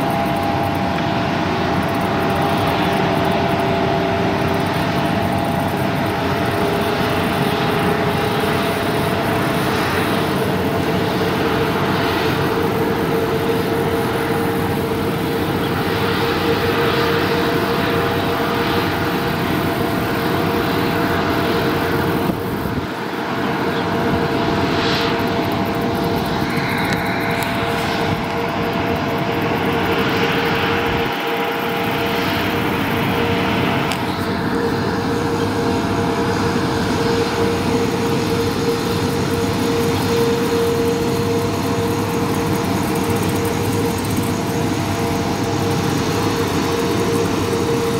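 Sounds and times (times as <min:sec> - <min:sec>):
jet engine whine: 0:00.0 - 0:47.9.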